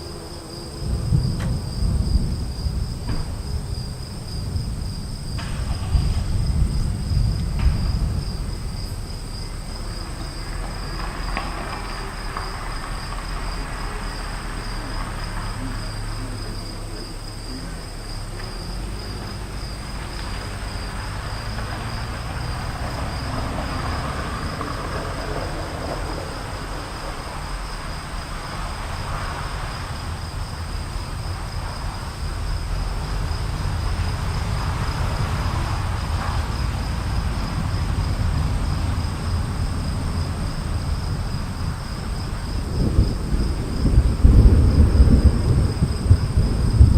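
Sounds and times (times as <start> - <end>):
insects trilling: 0.0 - 46.9
storm rumble: 0.0 - 46.9.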